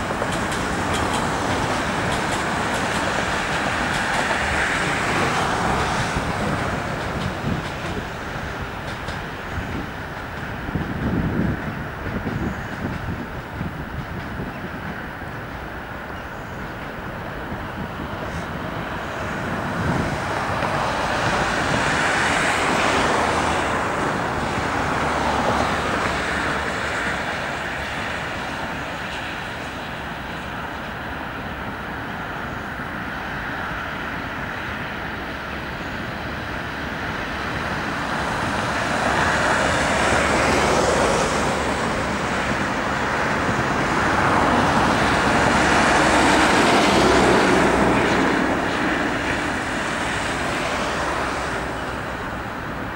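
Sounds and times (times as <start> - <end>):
traffic passing: 0.0 - 52.9.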